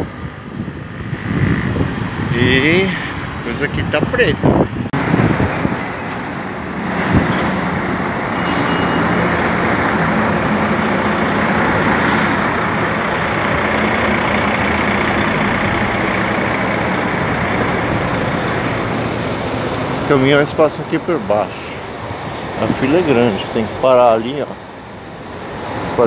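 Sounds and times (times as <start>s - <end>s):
rush of traffic: 0.0s - 26.0s
truck and bus engines droning: 0.0s - 26.0s.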